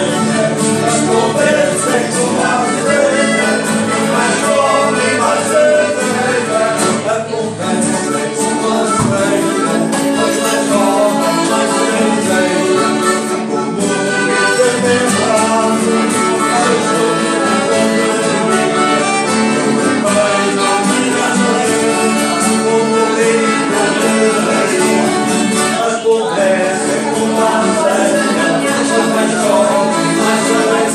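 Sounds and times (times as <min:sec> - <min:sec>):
accordion: 0:00.0 - 0:30.9
acoustic guitars: 0:00.0 - 0:30.9
man singing: 0:00.0 - 0:30.9.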